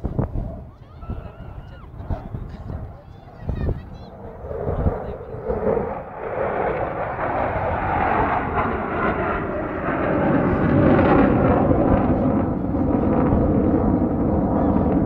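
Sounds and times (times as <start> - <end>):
fighter jet flying past: 0.0 - 15.0.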